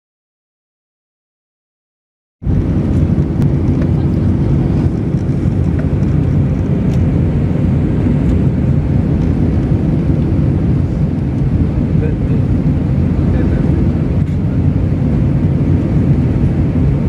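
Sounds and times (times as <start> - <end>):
airliner cabin rumble: 2.4 - 17.0.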